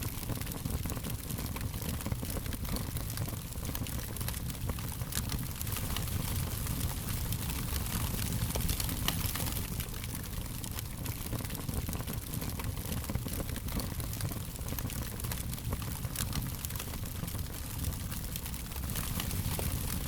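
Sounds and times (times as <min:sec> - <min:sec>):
fire snaps and pops: 0:00.0 - 0:20.0
low rumble of fire: 0:00.0 - 0:20.0.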